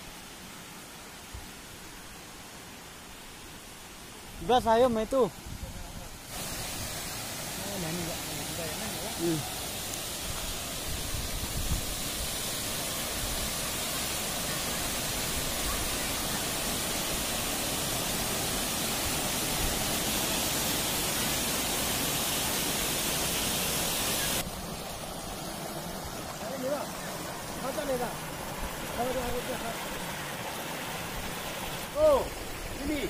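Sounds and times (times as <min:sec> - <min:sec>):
soft flow of water: 0:00.0 - 0:33.0
waterfall rushing over rock: 0:06.1 - 0:33.0.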